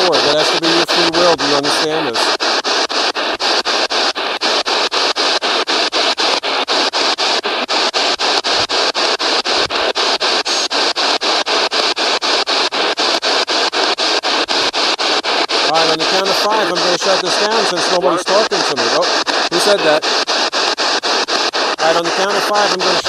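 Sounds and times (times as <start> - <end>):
pulsing radio static: 0.0 - 23.0.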